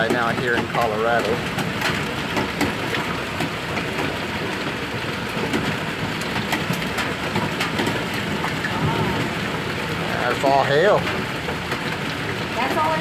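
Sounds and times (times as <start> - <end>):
hailstones pelting down: 0.0 - 13.0.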